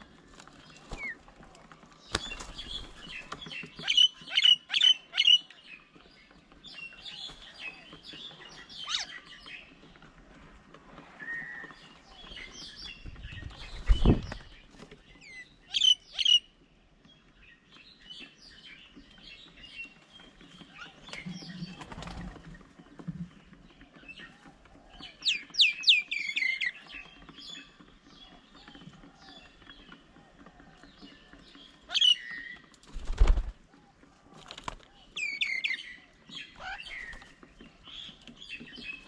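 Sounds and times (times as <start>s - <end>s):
wild birds chirping: 0.0s - 39.0s.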